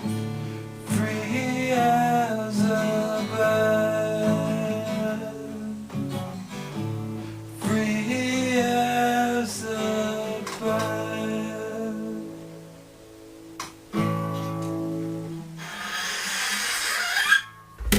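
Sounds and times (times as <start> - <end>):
acoustic guitar strummed chords: 0.0 - 15.6, 17.4 - 17.9.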